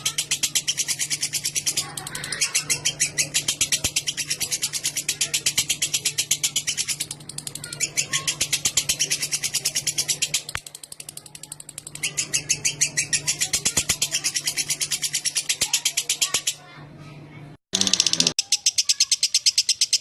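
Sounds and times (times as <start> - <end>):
bird chattering high sharp notes: 0.0 - 16.7, 17.8 - 20.0.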